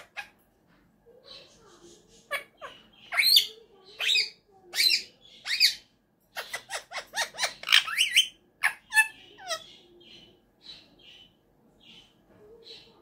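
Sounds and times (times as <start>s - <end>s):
parakeet calling: 0.0s - 0.4s, 1.2s - 12.1s.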